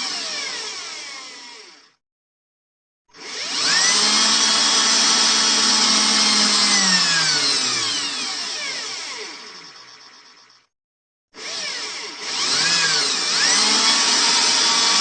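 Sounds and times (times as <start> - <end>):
power drill whining: 0.0 - 2.0, 3.1 - 10.6, 11.4 - 15.0.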